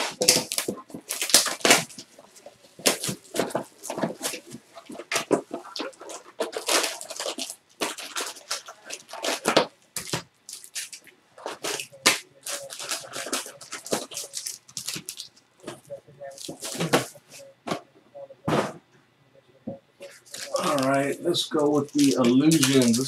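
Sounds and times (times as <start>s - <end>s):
packaging tearing and crinkling: 0.0s - 2.2s, 2.8s - 15.4s, 16.3s - 17.2s, 20.0s - 23.0s.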